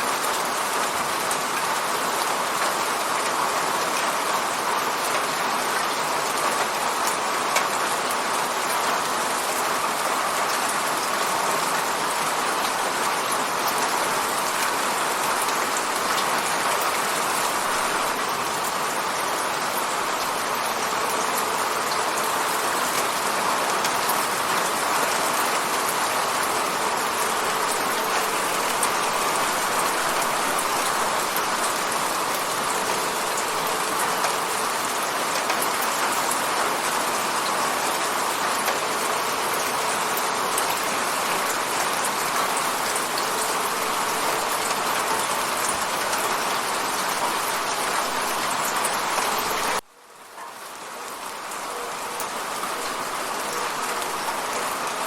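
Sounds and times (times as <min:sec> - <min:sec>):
rain pattering on window: 0:00.1 - 0:55.0.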